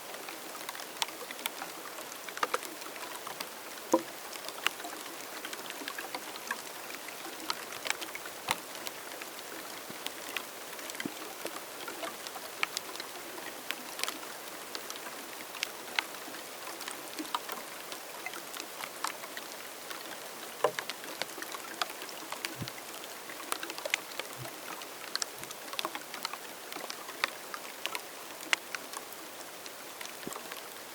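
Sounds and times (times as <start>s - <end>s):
rainfall hiss: 0.0s - 30.9s.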